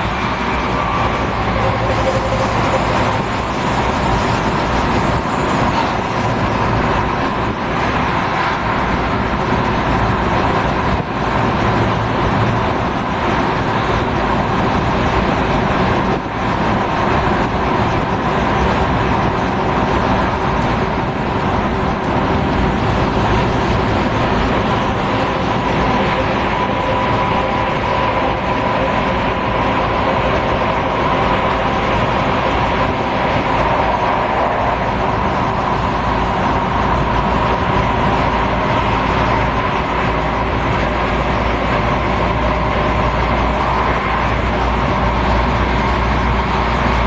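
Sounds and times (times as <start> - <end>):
electric train rumble: 0.0 - 47.0.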